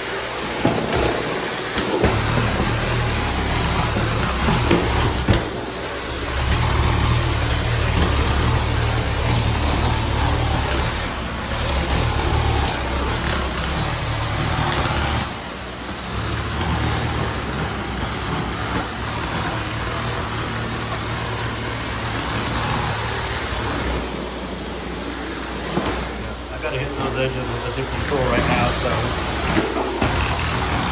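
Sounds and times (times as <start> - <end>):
tile cleaning tool hissing: 0.0 - 30.9
low machine hum: 2.0 - 30.9.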